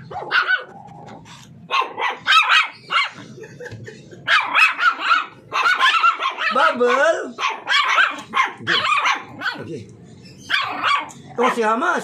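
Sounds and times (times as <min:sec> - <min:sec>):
puppy yapping: 0:00.0 - 0:03.2, 0:04.3 - 0:09.8, 0:10.4 - 0:11.8.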